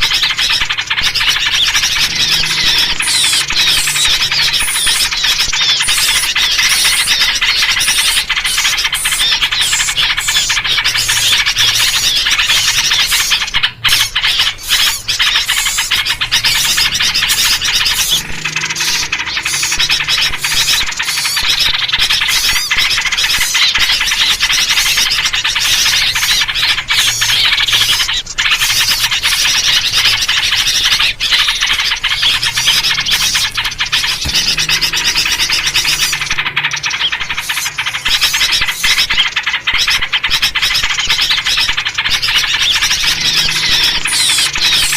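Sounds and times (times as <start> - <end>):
bulbul calls: 0.0 - 44.9
small birds chattering: 0.0 - 44.9.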